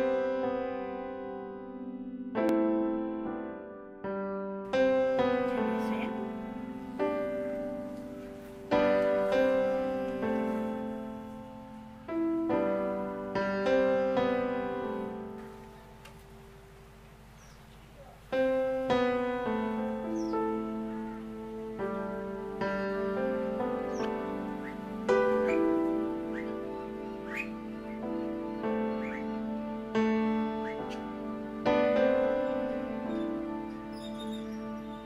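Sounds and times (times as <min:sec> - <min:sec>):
gentle piano chords: 0:00.0 - 0:35.0.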